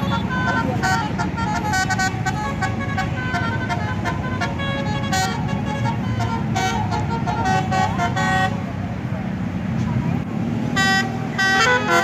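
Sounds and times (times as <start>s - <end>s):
multi-tone bus horn tune: 0.0s - 8.8s, 10.7s - 12.0s.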